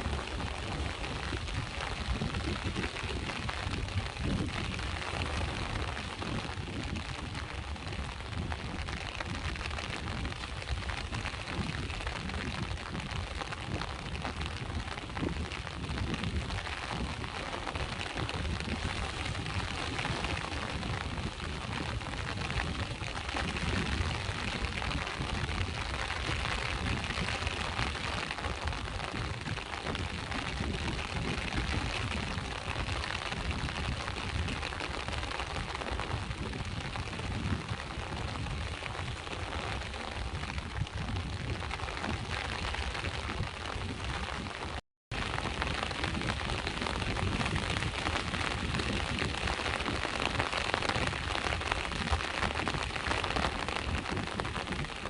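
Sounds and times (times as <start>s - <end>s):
rain hissing: 0.0s - 55.0s
sea waves washing on shore: 0.0s - 55.0s.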